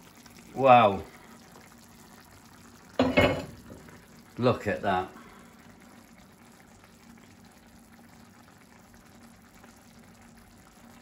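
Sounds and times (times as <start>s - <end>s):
sauce bubbling and popping: 0.0s - 4.4s, 5.5s - 11.0s.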